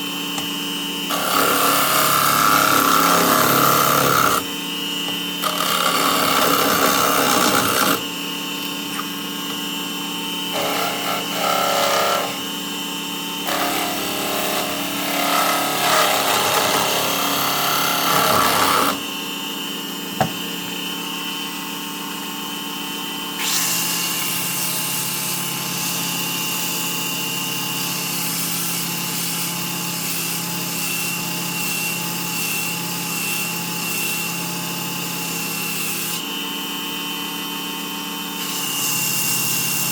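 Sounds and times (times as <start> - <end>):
turning tool cutting wood: 0.0 - 19.4, 23.4 - 34.6, 38.4 - 39.9
wood lathe motor whine: 0.0 - 39.9.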